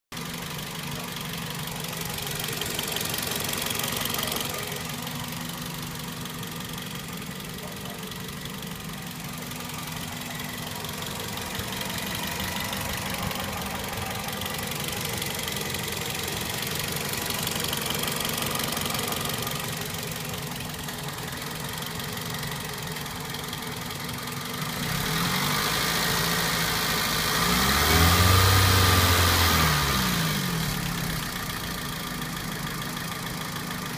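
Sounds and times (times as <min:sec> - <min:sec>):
car engine idling: 0:00.1 - 0:33.9
fast engine ticking: 0:00.2 - 0:33.9.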